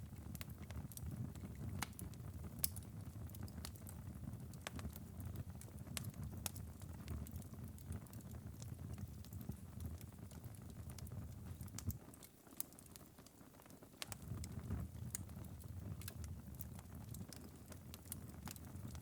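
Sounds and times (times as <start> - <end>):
fireplace embers crackling: 0.0 - 19.0.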